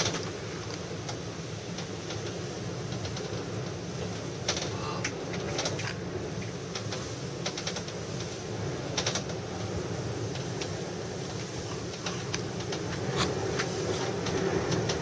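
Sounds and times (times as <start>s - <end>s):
gondola cabin rattling and clicking: 0.0s - 15.0s
strong wind: 0.0s - 15.0s.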